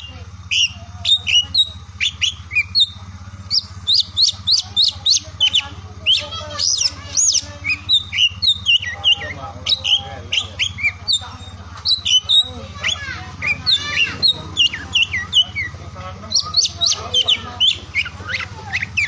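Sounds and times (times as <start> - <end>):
bird singing whistled notes: 0.0 - 19.0.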